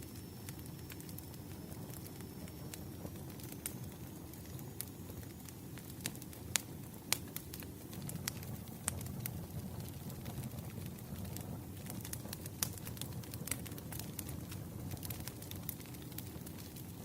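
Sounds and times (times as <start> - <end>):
low rumble of fire: 0.0 - 17.0
wood fire popping: 0.0 - 17.0.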